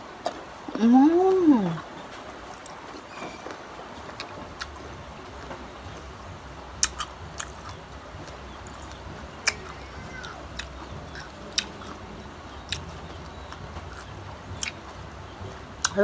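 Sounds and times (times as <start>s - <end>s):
crunchy chewing: 1.7s - 16.0s.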